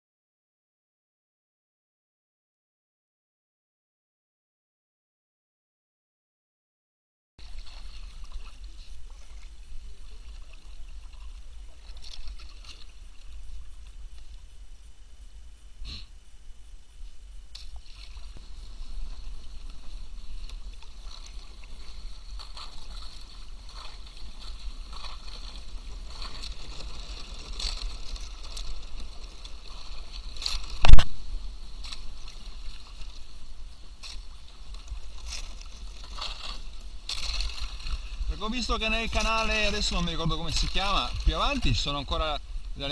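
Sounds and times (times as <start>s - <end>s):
paddle splashing water: 7.4s - 16.0s, 16.9s - 42.9s.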